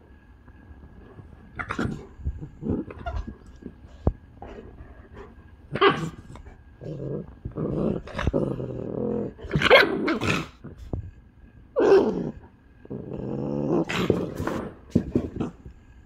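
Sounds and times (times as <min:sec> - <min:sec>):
dogs growling: 0:01.4 - 0:10.9, 0:11.7 - 0:15.7.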